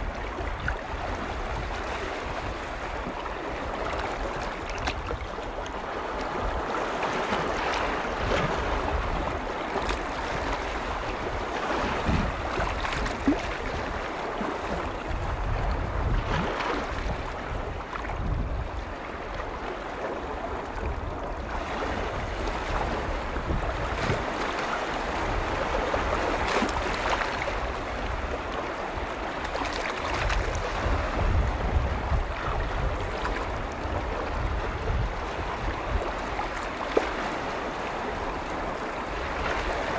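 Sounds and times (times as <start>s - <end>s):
wind buffeting microphone: 0.0s - 19.6s, 20.2s - 39.9s
lake waves washing against shore: 0.0s - 39.9s.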